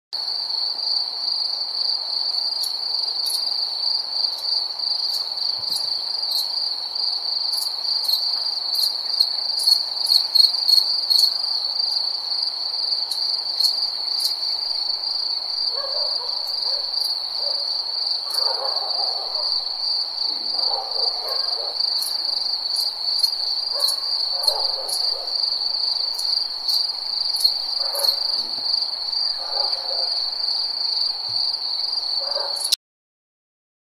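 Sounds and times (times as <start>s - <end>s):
crickets trilling: 0.2s - 32.8s.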